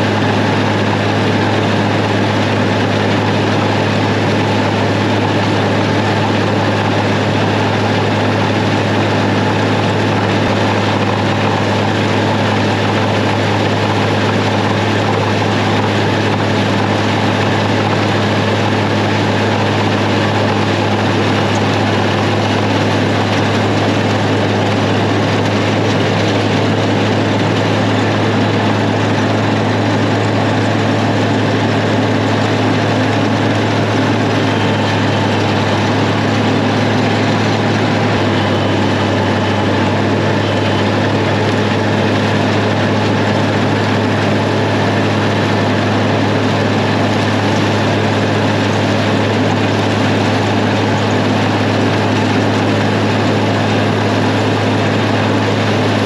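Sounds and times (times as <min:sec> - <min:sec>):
tractor engine and forage chopper: 0:00.0 - 0:56.0.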